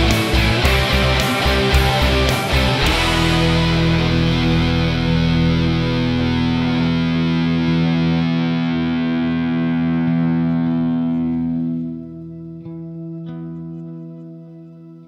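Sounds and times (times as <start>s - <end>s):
distorted electric guitar chord: 0.0s - 14.0s.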